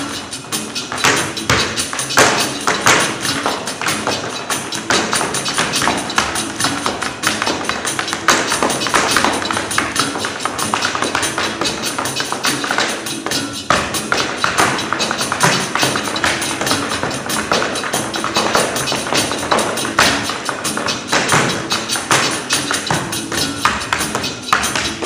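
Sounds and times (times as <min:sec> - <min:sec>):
music: 0:00.0 - 0:25.0
tap shoes striking stage: 0:00.0 - 0:25.0.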